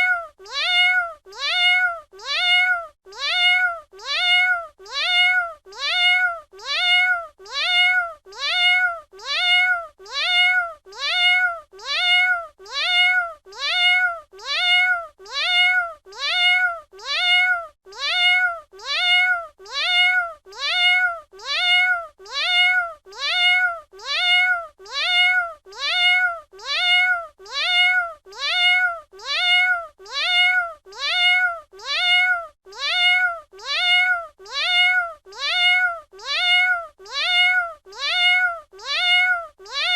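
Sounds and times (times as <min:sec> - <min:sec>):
cat meowing: 0:00.0 - 0:39.9.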